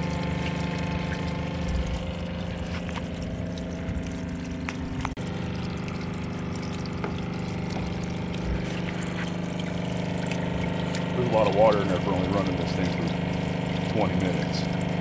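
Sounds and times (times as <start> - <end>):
electric water pump humming: 0.0 - 15.0
water splashing out: 0.0 - 15.0.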